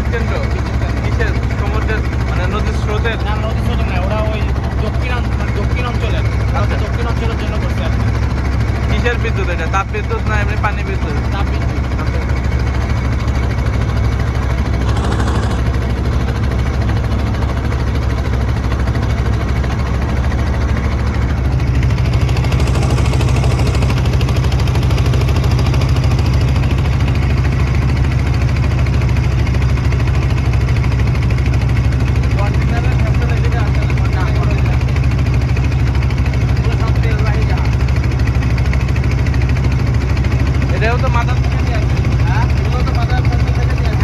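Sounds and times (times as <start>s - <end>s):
boat engine humming: 0.0s - 44.0s.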